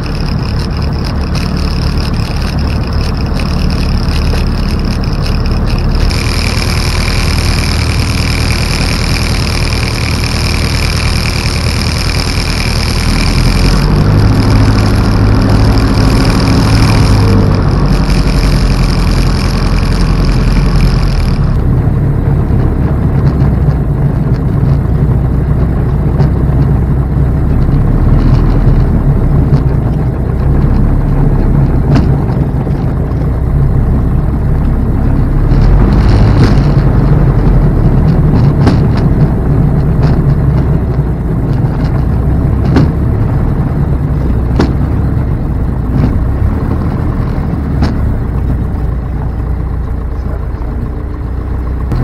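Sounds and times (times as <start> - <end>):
aircraft piston engine running: 0.0 - 52.0
steady high whine: 0.0 - 52.0.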